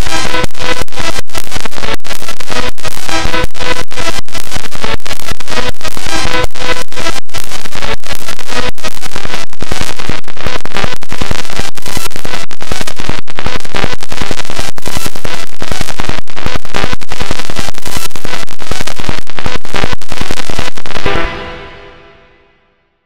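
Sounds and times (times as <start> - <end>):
distorted crackling noise: 0.0 - 23.0.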